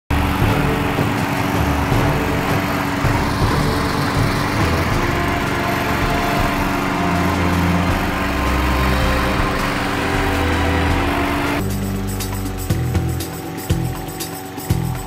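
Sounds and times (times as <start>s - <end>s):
lawn mower engine running: 0.1s - 15.0s.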